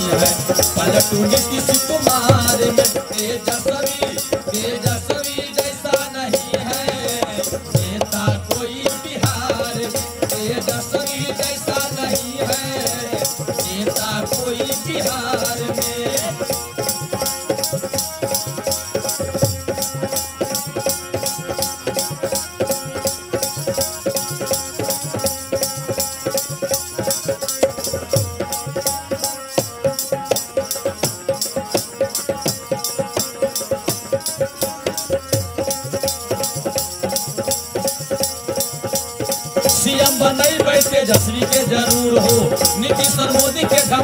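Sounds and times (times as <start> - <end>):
harmonium melody: 0.0 - 44.0
jingling hand percussion: 0.0 - 44.0.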